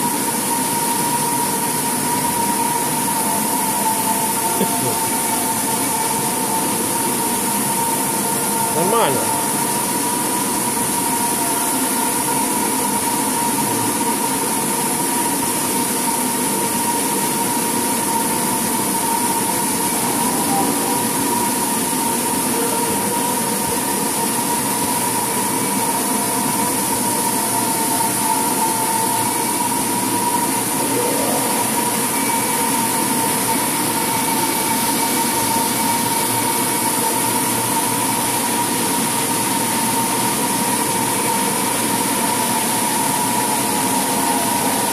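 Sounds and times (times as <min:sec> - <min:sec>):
machine motor droning with whine: 0:00.0 - 0:44.9.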